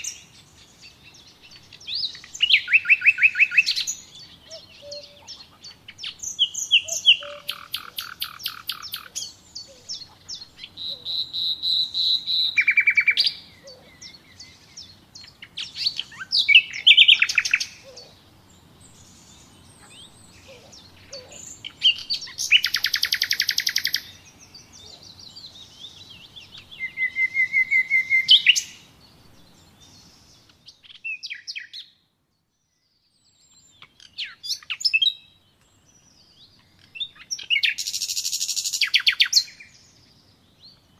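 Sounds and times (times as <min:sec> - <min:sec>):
background noise: 0:00.0 - 0:40.9
songbirds chirping and trilling: 0:00.0 - 0:40.9.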